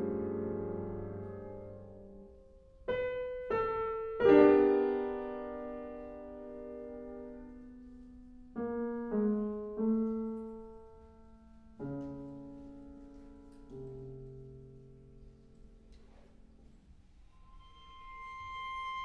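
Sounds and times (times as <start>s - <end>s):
piano playing slow chords: 0.0s - 15.8s.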